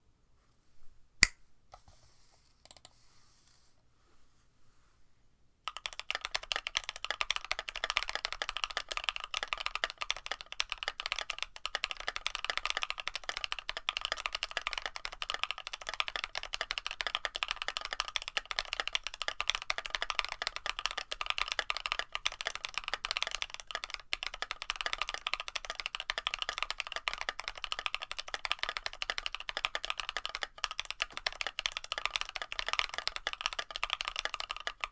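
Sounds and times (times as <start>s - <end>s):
fast mechanical keyboard typing: 5.7s - 34.9s.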